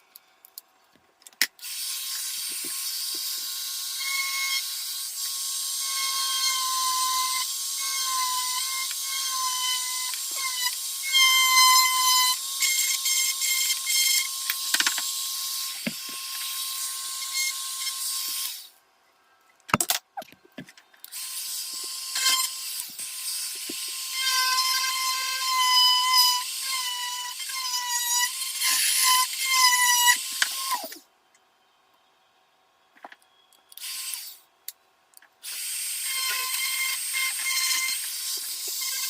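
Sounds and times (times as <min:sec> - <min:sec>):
rotary tool whining carving wood: 0:01.6 - 0:31.0, 0:33.3 - 0:34.4, 0:35.4 - 0:39.0.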